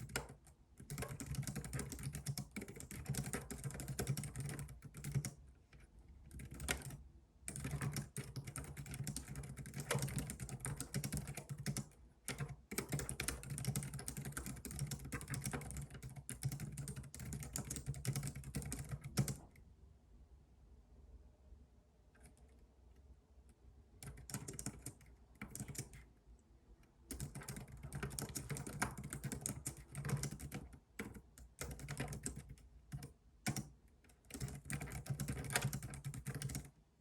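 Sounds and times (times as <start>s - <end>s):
fast typing on computer keyboard: 0.0s - 19.5s, 24.0s - 26.1s, 27.1s - 36.8s.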